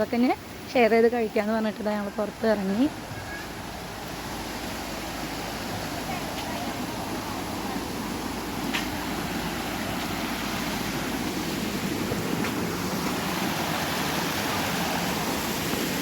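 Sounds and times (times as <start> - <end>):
waterfall roaring: 0.4 - 16.0.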